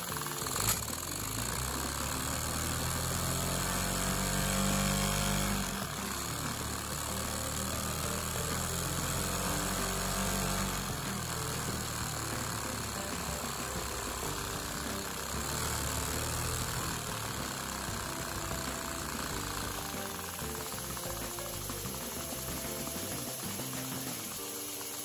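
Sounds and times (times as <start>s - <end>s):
toy engine mechanical chatter: 0.0s - 25.0s
steady hiss: 3.2s - 25.0s.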